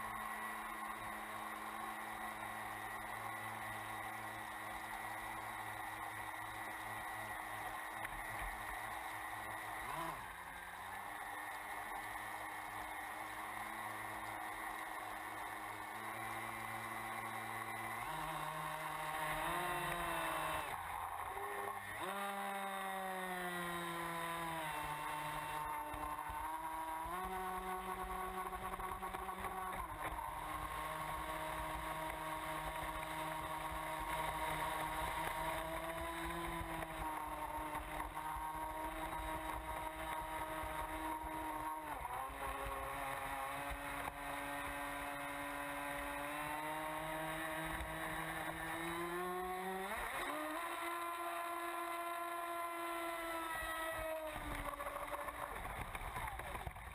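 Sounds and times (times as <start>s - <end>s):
electric motor whining: 0.0s - 56.9s.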